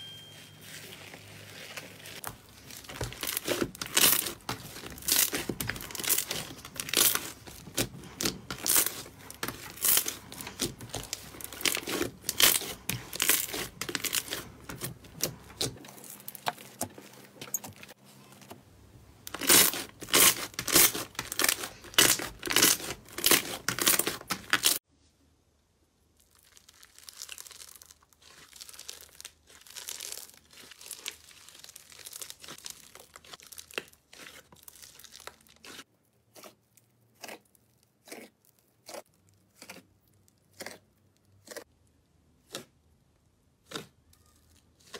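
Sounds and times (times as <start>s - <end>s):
slime crackling and squelching: 0.6s - 18.0s, 19.2s - 24.8s, 26.0s - 44.9s.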